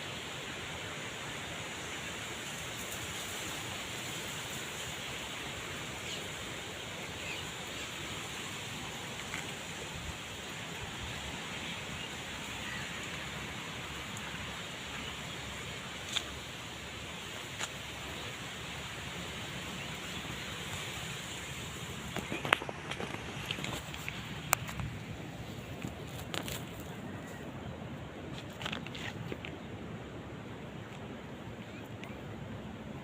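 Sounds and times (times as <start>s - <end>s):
steady outdoor rushing noise: 0.0s - 33.0s.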